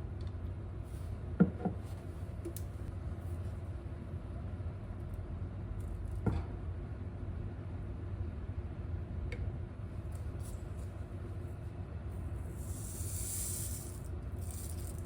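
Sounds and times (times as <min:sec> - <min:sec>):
ventilation fan humming: 0:00.0 - 0:15.0.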